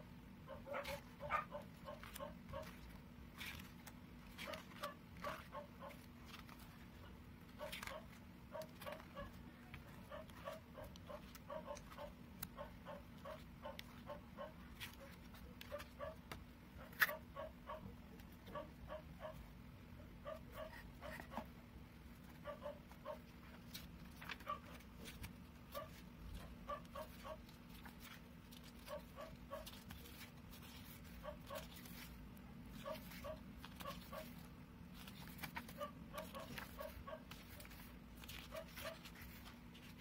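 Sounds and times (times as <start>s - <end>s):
book pages turning: 0.8s - 17.5s, 20.3s - 40.0s.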